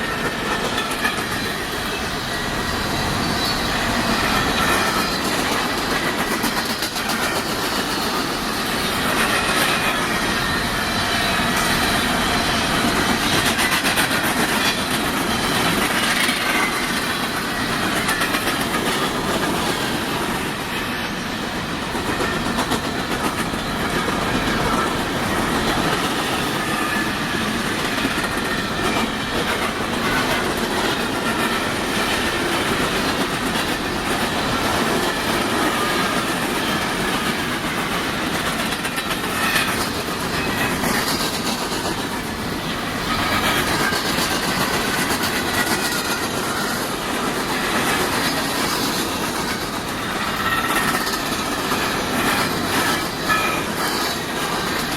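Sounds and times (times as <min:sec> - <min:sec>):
train cars rumbling on rail: 0:00.0 - 0:54.9
wheels clacking over rail joints: 0:00.0 - 0:54.9.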